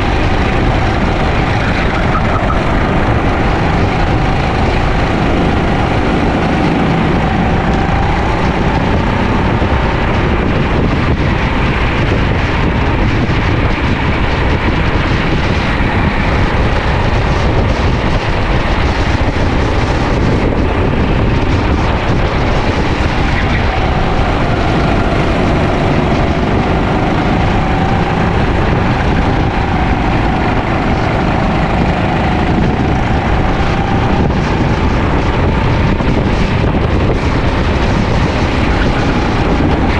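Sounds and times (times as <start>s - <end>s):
kart engine running flat out: 0.0s - 39.9s
wind rumble on microphone: 0.0s - 39.9s.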